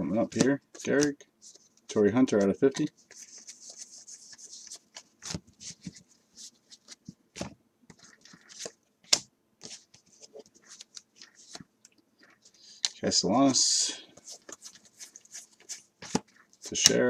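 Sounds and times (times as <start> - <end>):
cards rustling and snapping: 0.2 - 13.0, 14.2 - 17.0.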